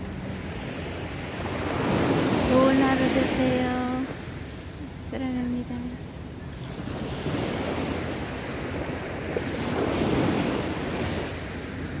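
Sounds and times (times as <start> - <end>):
small waves breaking on sand: 0.0 - 12.0
wind rumbling on microphone: 0.0 - 12.0.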